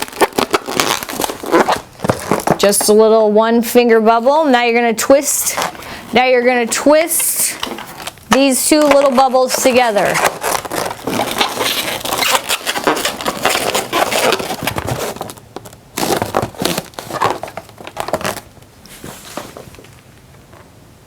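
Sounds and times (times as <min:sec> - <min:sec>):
balloons squeaking and rubbing: 0:00.0 - 0:03.0, 0:05.1 - 0:19.7.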